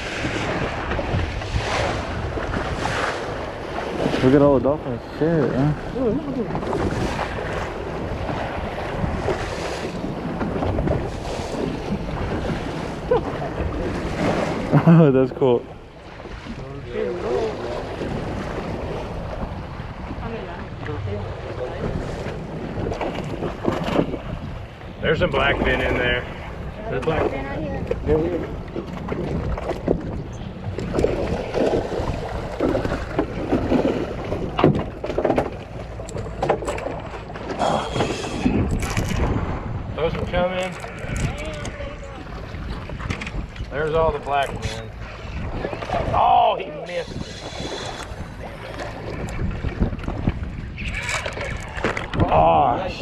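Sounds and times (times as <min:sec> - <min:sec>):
sea washing around boat: 0:00.0 - 0:53.0
wind buffeting microphone: 0:00.0 - 0:53.0.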